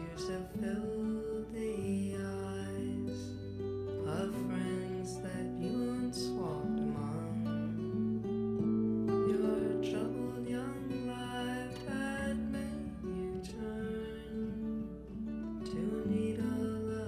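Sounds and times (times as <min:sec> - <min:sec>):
plucked acoustic guitar: 0:00.0 - 0:17.0.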